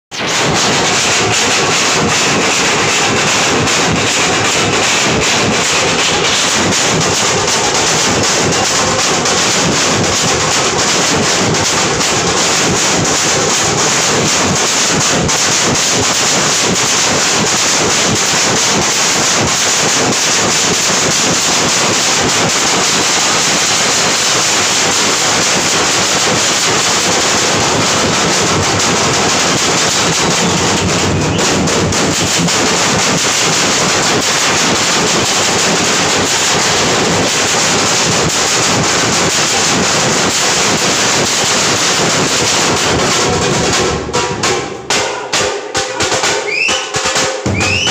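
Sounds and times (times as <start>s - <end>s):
steel barrel drums beating: 0.1s - 47.9s.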